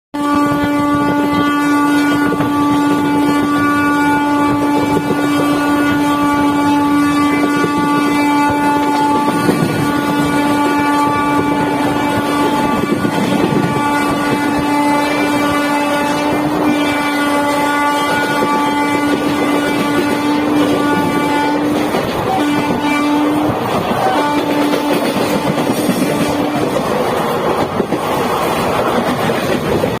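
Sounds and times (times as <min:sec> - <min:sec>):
locomotive horn: 0:00.2 - 0:30.0
moving train rumble: 0:00.2 - 0:30.0.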